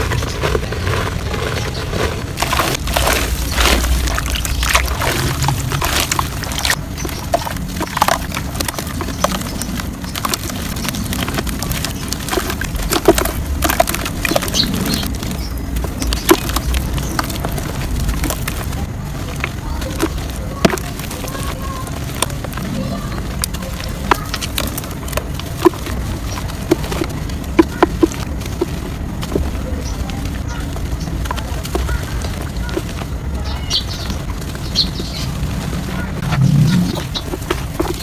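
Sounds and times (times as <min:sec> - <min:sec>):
soft dirt crumbling and crunching: 0:00.0 - 0:38.0.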